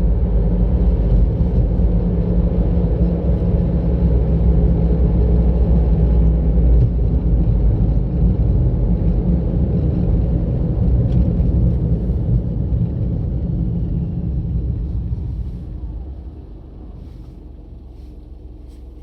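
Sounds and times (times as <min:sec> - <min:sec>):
car engine hum: 0:00.0 - 0:19.0
tyre and road rumble: 0:00.0 - 0:19.0.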